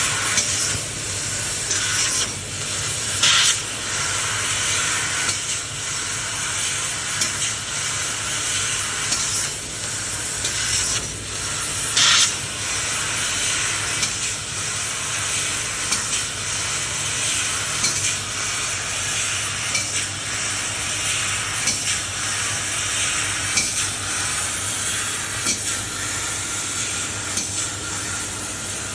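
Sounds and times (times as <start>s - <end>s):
laser cutter sizzling hiss: 0.0s - 28.9s.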